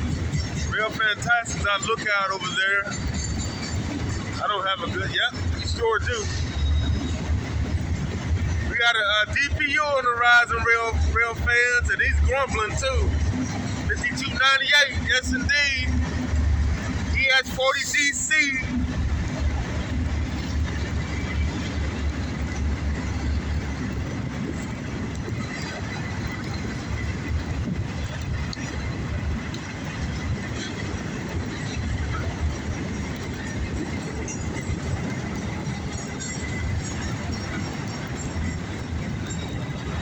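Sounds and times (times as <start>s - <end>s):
diesel locomotive grumbling: 0.0s - 40.0s
train cars rumbling: 0.0s - 40.0s
wheel clatter: 0.0s - 40.0s.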